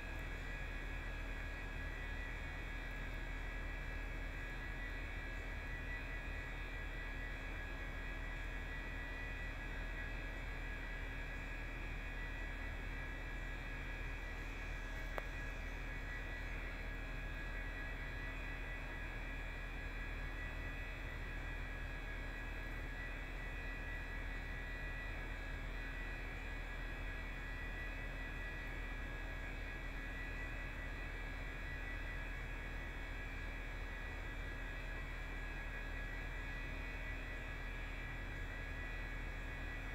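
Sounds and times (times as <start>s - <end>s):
faint high whine: 0.0s - 39.9s
steady hum: 0.0s - 39.9s.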